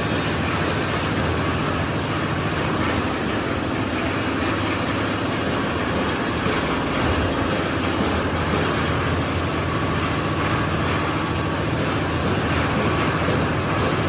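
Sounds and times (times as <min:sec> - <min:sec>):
concrete mixer mechanical drone: 0:00.0 - 0:14.0.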